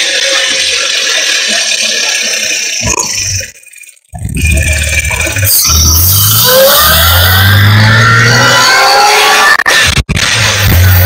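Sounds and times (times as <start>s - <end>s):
low engine drone: 0.0s - 11.0s
supercharger whine: 0.0s - 11.0s.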